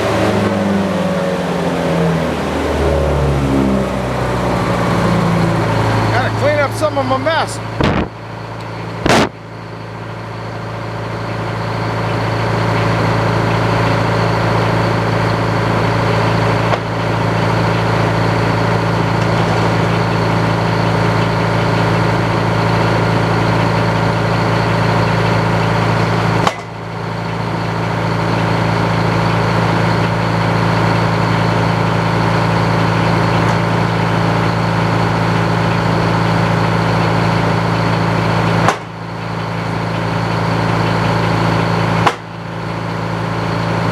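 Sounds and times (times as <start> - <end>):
engine drone: 0.0 - 43.9.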